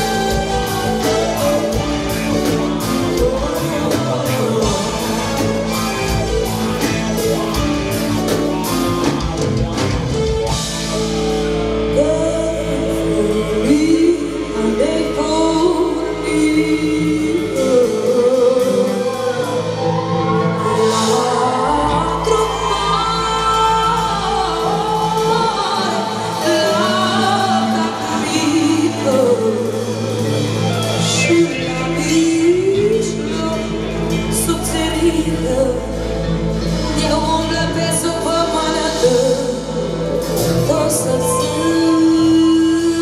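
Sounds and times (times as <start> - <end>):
woman singing into a microphone: 0.0 - 7.4, 10.9 - 43.0
pop-rock band playing: 0.0 - 43.0.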